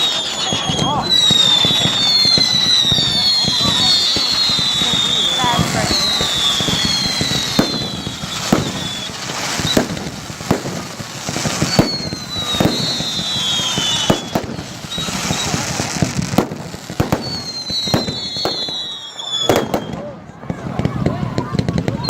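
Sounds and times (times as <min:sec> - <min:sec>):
fireworks bangs and crackles: 0:00.0 - 0:22.0
whistling fireworks: 0:00.0 - 0:22.0.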